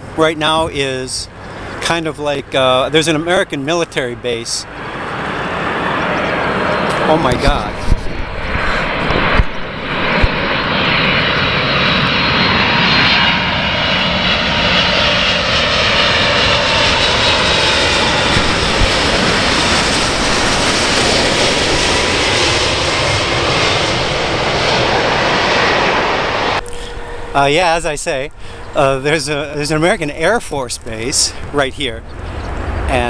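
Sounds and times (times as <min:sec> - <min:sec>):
jet engines roaring overhead: 0:00.0 - 0:33.0.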